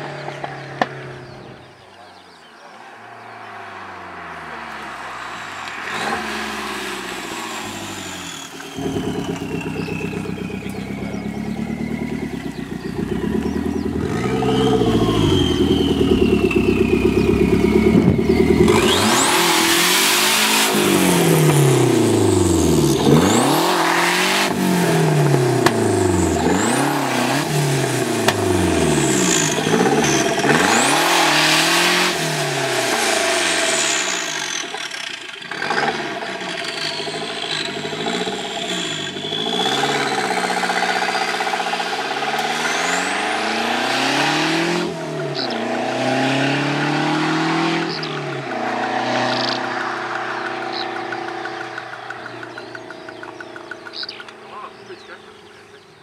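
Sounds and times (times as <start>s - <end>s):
car engine revving and accelerating: 2.8s - 56.0s.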